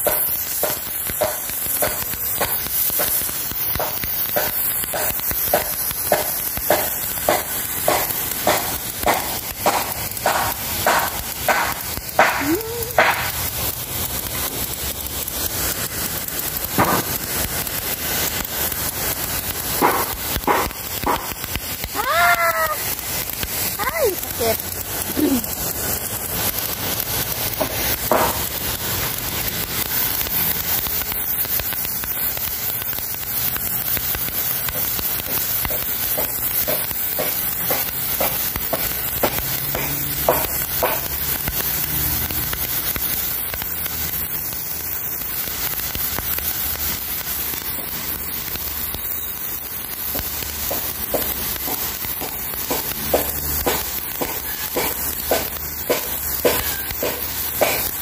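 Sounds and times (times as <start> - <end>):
sharp crackling ticks: 0.0 - 58.0
water jet hissing on concrete: 0.0 - 58.0.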